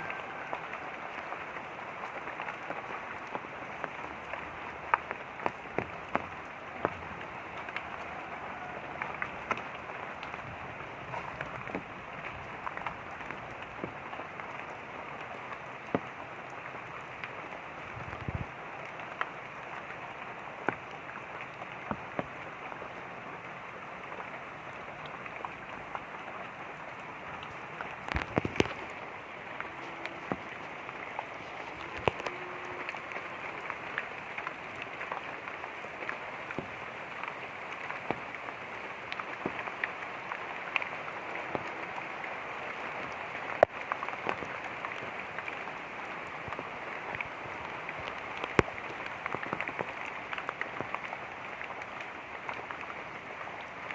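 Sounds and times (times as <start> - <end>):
light rain hissing: 0.0 - 53.9.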